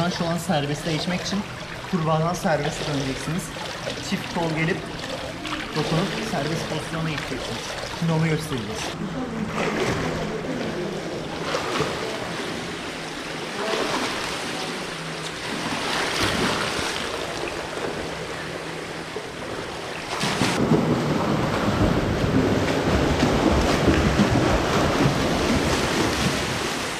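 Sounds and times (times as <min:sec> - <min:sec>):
pool water splashing: 0:00.0 - 0:26.9.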